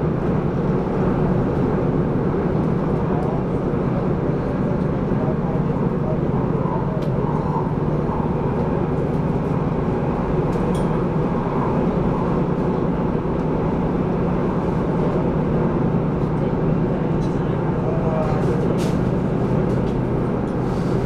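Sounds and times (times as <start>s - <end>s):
train running rumble: 0.0s - 21.0s.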